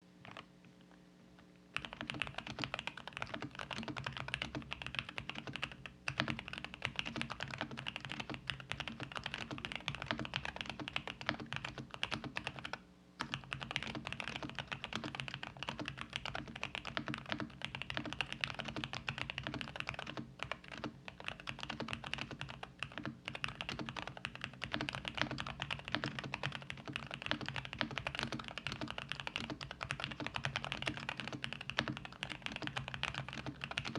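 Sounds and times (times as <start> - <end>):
mechanical keyboard typing: 1.8 - 33.9.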